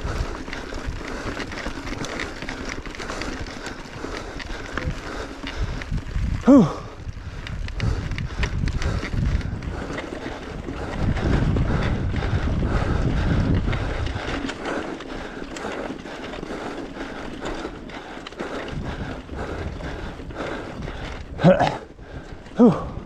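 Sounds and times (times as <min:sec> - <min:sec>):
mountain bike on dirt trail: 0:00.0 - 0:23.0
rider breathing hard: 0:00.0 - 0:23.0
wind buffeting microphone: 0:00.0 - 0:23.0.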